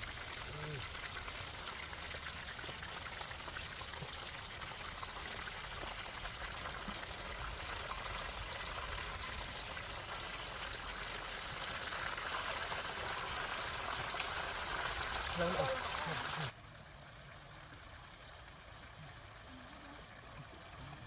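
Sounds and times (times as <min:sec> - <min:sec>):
flowing water: 0:00.0 - 0:21.0.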